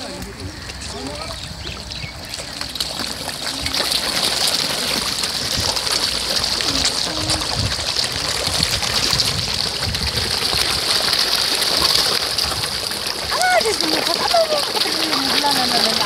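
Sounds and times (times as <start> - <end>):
fish splashing at water surface: 0.0 - 16.0.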